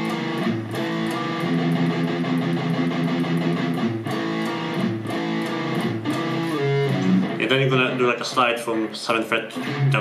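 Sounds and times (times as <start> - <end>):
electric guitar metal riff: 0.0 - 10.0.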